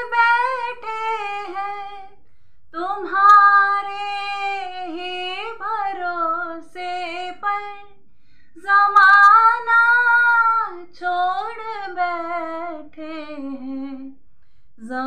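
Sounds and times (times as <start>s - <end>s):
woman singing: 0.0s - 2.2s, 2.8s - 8.0s, 8.6s - 14.2s, 14.8s - 15.0s.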